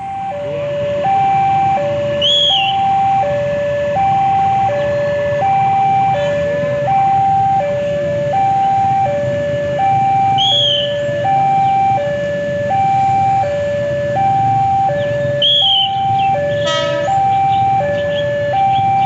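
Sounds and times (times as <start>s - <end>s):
two-tone crossing alarm: 0.0s - 19.0s.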